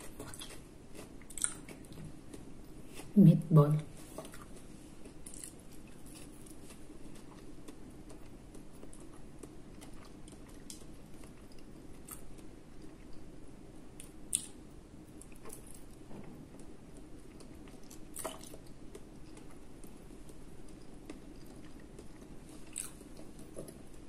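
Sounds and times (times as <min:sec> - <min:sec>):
person chewing: 0:00.0 - 0:03.2, 0:04.0 - 0:24.0.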